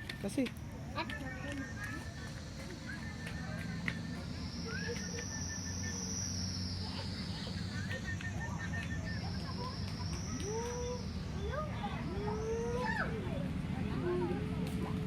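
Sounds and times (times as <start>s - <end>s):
bird chirps: 0.0s - 13.1s
high-pitched insect drone: 0.0s - 14.2s
low steady rumble: 0.0s - 15.0s.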